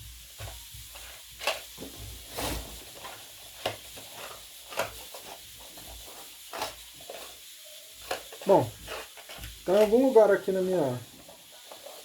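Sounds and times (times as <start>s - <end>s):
small objects clicking and rustling: 0.2s - 12.0s.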